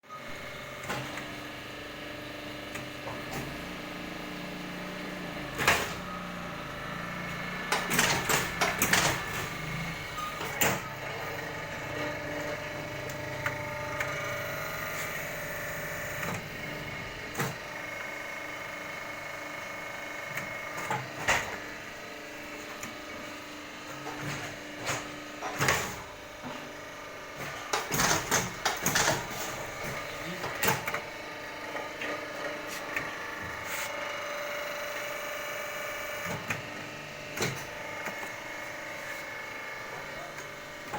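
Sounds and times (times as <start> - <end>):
machine humming and whining: 0.1 - 40.9.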